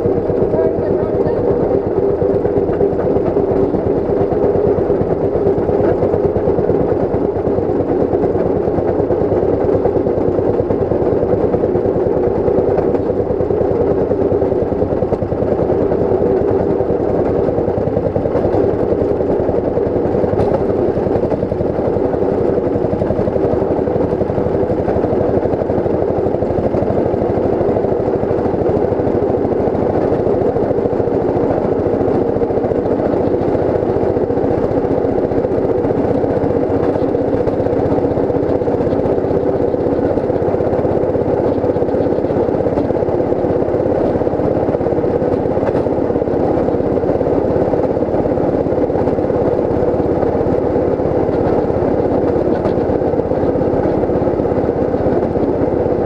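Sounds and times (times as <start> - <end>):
small engine running: 0.0 - 56.0
wheels rolling on rails: 0.0 - 56.0.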